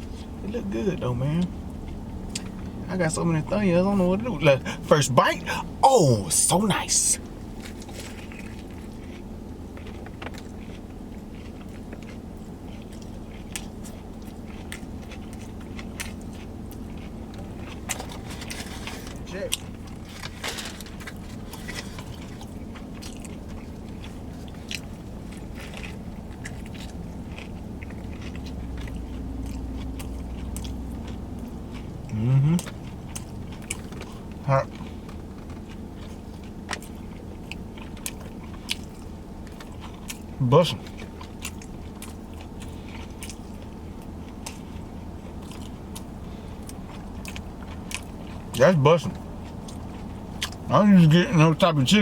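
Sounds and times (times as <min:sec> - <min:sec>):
steady low hum: 0:00.0 - 0:52.0
crunchy chewing: 0:01.4 - 0:02.8, 0:07.2 - 0:51.2.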